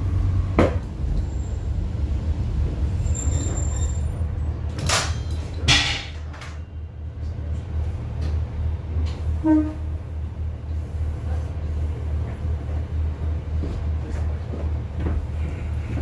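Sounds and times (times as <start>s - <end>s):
train engine rumble: 0.0s - 16.0s.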